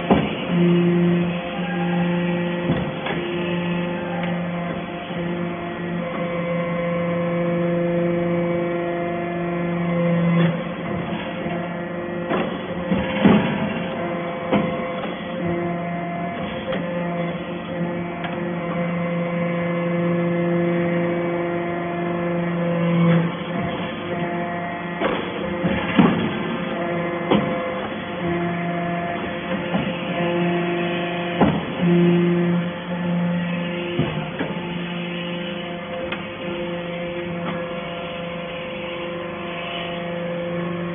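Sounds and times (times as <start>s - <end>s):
hydraulic pump humming: 0.0s - 40.9s.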